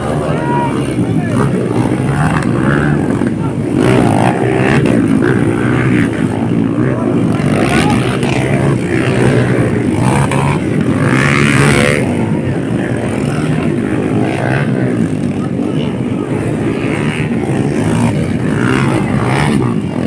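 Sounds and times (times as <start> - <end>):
dirt bike engines revving: 0.0 - 20.0
voices: 0.0 - 20.0.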